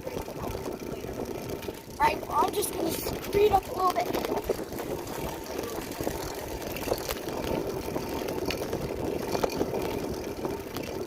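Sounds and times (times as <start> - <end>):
bicycle tyres rolling on pavement: 0.0 - 11.0
wind buffeting microphone: 0.0 - 11.0.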